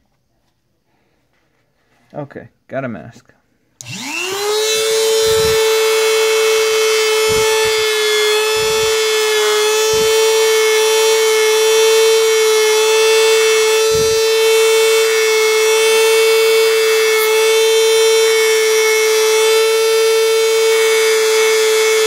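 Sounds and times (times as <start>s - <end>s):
rotary tool sanding whine: 3.8s - 22.0s.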